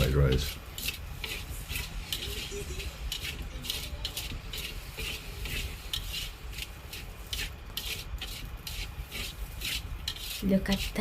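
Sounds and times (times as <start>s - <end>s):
metal spatula scraping a wok: 0.0s - 11.0s.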